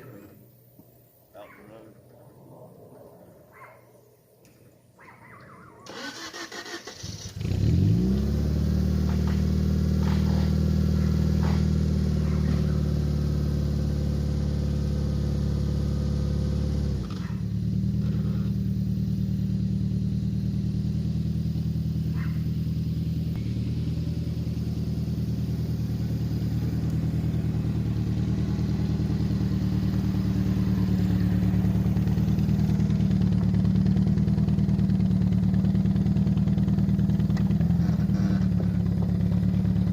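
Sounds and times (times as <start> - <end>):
car engine starting and idling: 5.0 - 39.9.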